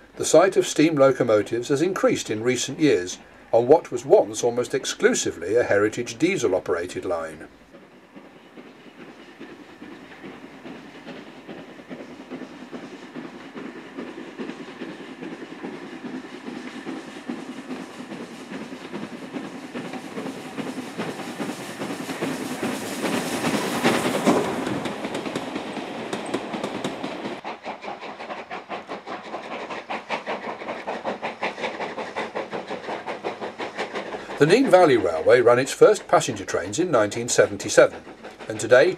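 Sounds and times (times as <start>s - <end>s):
rail noise: 0.0s - 38.9s
steam locomotive passing: 0.0s - 38.9s
steam train exhaust beats: 0.0s - 38.9s.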